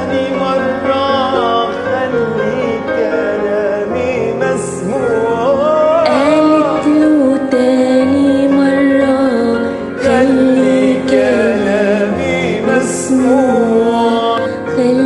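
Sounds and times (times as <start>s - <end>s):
children's song music: 0.0s - 15.0s
gliding wordless melody: 0.0s - 15.0s.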